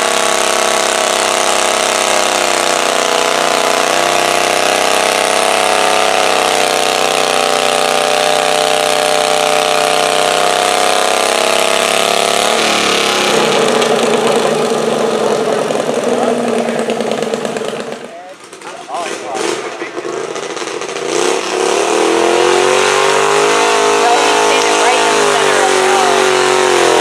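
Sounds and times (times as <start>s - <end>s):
garden tractor engine running: 0.0s - 27.0s.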